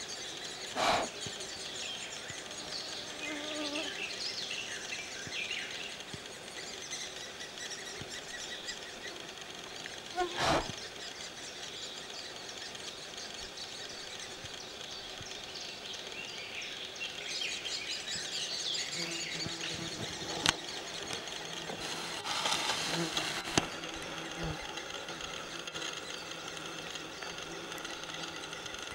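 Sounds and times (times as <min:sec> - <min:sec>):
woodland birds chirping: 0:00.0 - 0:28.9.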